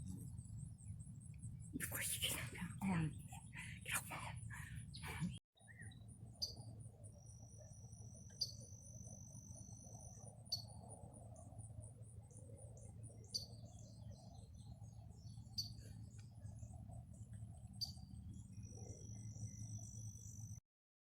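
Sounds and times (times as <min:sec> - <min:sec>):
bird chirp: 0:00.0 - 0:11.5, 0:12.3 - 0:20.6
insects trilling: 0:00.0 - 0:20.6.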